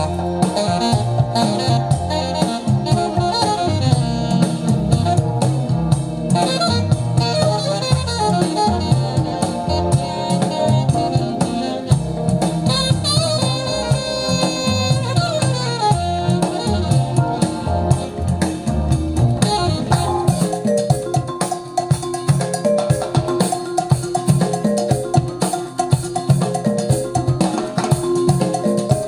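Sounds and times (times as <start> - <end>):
recorded music through loudspeakers: 0.0 - 29.0.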